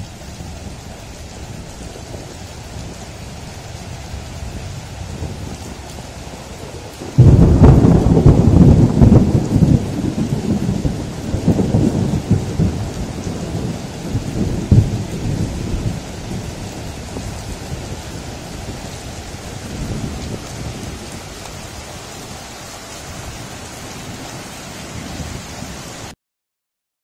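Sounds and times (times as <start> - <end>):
steady rain: 0.0 - 26.2
thunder rumbling: 0.0 - 26.2.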